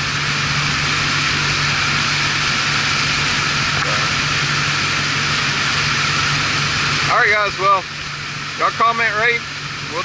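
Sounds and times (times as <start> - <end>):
boat engine humming: 0.0 - 10.0
water rushing along hull: 0.0 - 10.0.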